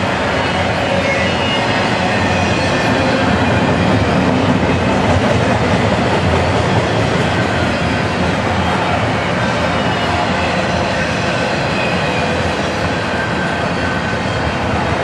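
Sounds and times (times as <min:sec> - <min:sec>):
freight train wheels on rails: 0:00.0 - 0:15.0.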